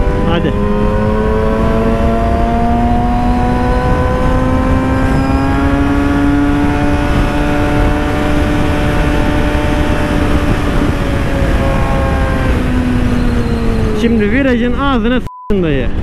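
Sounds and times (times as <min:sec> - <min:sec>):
motorcycle engine at high revs: 0:00.0 - 0:15.0
wind noise on microphone: 0:00.0 - 0:15.0.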